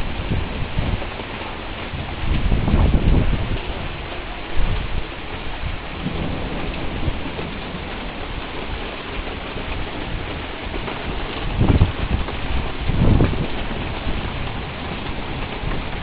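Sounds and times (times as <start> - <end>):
low rumble of thunder: 0.0 - 16.0
rain falling steadily: 0.0 - 16.0.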